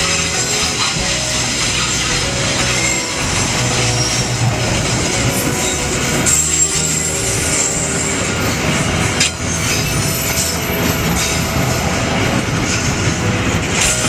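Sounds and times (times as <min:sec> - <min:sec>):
train wheels rumbling over rails: 0:00.0 - 0:14.0
wheels squealing on track: 0:00.0 - 0:14.0.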